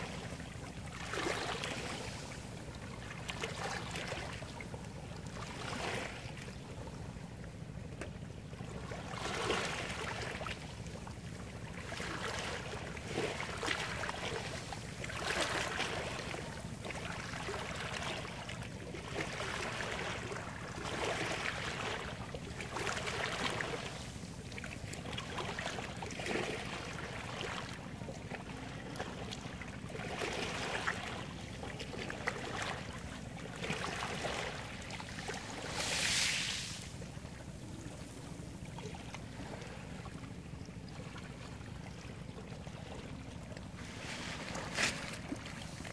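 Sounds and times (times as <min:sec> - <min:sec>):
small waves washing on beach: 0:00.0 - 0:06.6, 0:08.7 - 0:40.0, 0:43.6 - 0:45.9.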